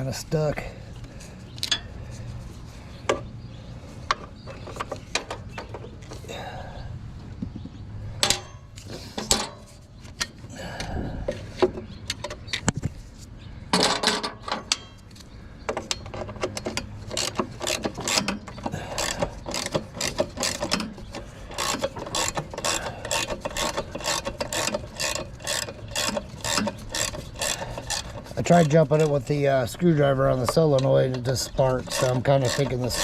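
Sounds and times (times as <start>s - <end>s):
metal clanks and knocks: 4.0s - 6.2s, 7.4s - 12.9s, 13.7s - 33.0s.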